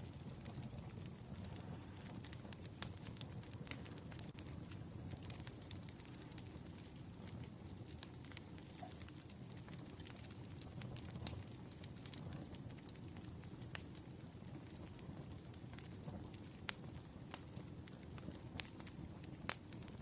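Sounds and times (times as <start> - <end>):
fire rumbling: 0.0 - 20.0
wood crackling and popping: 0.0 - 20.0.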